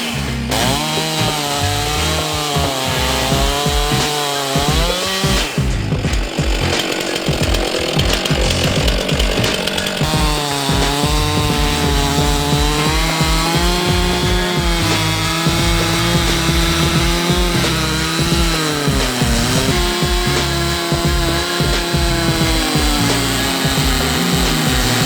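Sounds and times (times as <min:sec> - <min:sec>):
chainsaw cutting through log: 0:00.0 - 0:25.0.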